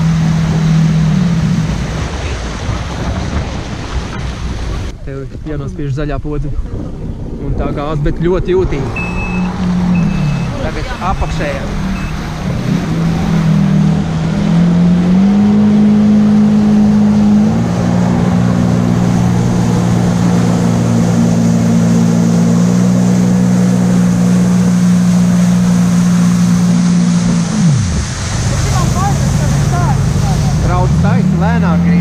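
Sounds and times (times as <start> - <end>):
jet ski engine revving: 0.0 - 4.9, 7.7 - 32.0.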